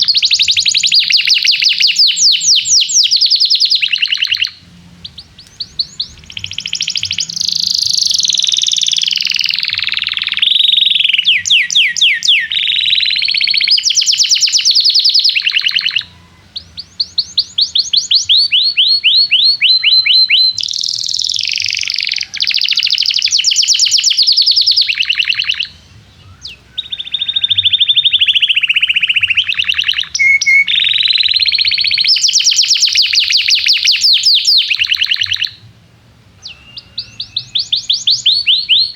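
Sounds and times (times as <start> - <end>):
canary singing trills and chirps: 0.0 - 35.7, 36.4 - 38.9.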